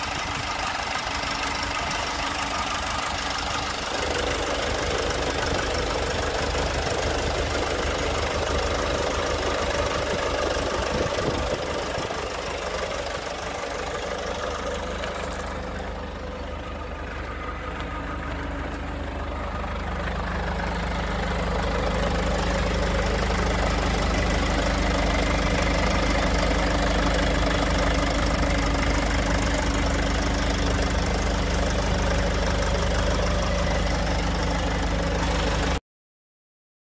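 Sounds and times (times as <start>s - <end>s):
diesel engine idling: 0.0s - 35.8s.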